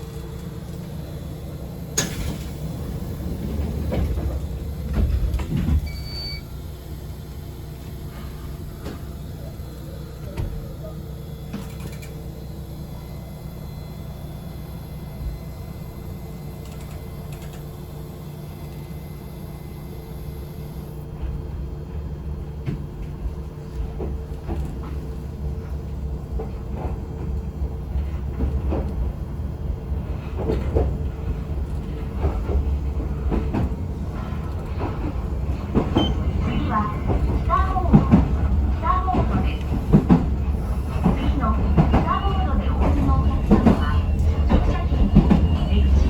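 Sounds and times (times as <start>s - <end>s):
electric train hum: 0.0s - 46.0s
train motors rumbling: 0.0s - 46.0s.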